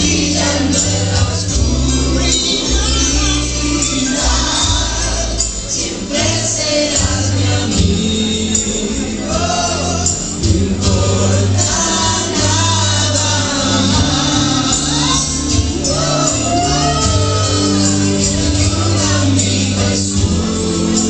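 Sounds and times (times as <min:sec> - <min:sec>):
group of voices singing: 0:00.0 - 0:21.0
pop backing track with bass: 0:00.0 - 0:21.0.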